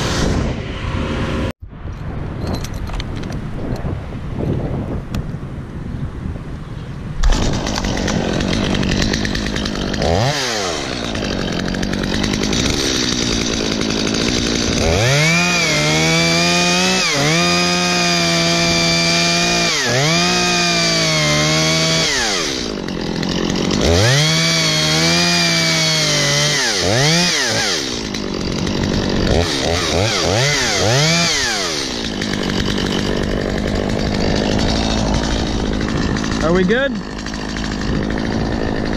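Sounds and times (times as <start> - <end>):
chainsaw revving and cutting: 0.0 - 1.5, 7.2 - 38.9.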